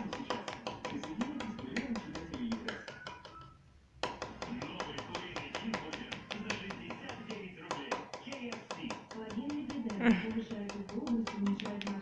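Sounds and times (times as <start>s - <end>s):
bird beak tapping on hard surface: 0.0s - 12.0s.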